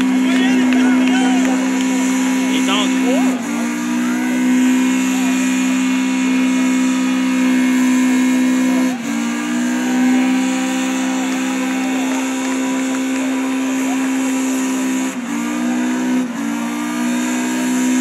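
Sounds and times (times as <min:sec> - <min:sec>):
car engine revving high: 0:00.0 - 0:18.0
tyres spinning on pavement: 0:00.0 - 0:18.0.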